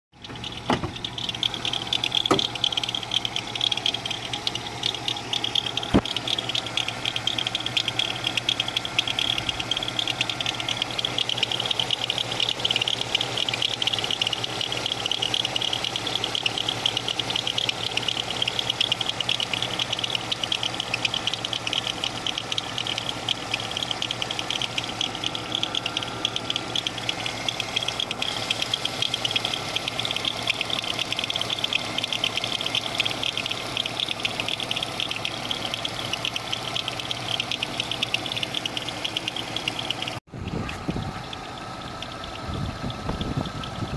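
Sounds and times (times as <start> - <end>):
car engine idling: 0.1 - 43.9
ticking rattle of pump pulley: 0.1 - 43.9.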